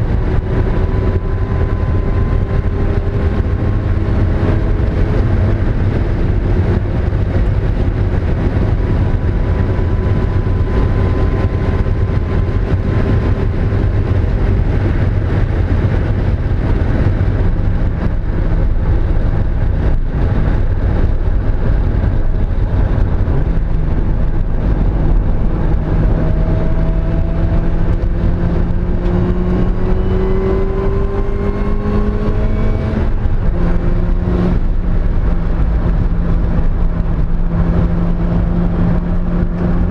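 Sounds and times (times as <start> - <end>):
car engine revving under load: 0.0 - 39.9
road and wind rumble: 0.0 - 39.9.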